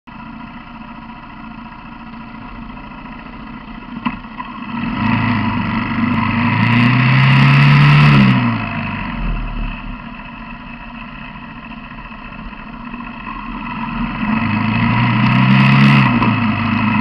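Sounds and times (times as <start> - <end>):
quad bike engine accelerating: 2.0 - 17.0.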